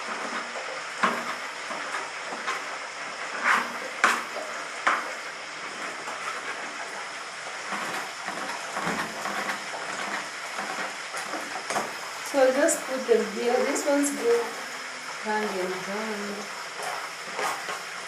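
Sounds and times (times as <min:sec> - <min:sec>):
hot oil sizzling: 0:00.0 - 0:18.0.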